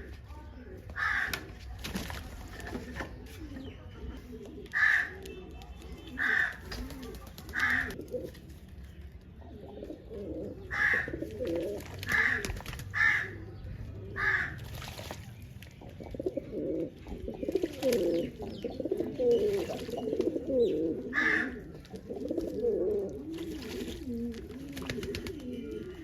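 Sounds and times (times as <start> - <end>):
pigeons cooing: 2.4 - 8.5, 9.4 - 15.1, 15.8 - 26.0.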